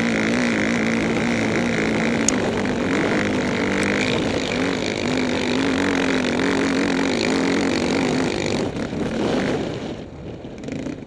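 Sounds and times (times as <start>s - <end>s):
dirt bike engine revving: 0.0s - 11.0s
wind rush: 0.0s - 11.0s.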